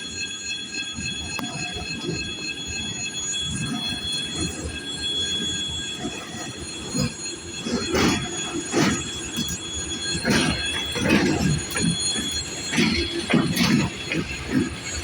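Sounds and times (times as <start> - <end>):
train wheels squealing on rails: 0.0 - 15.0.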